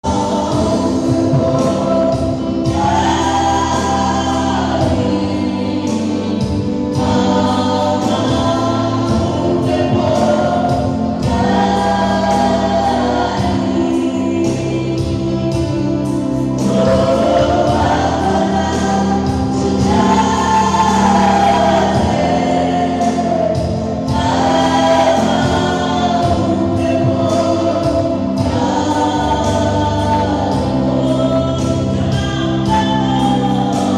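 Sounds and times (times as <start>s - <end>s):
band accompaniment: 0.0s - 33.9s
gospel choir singing: 0.0s - 33.9s.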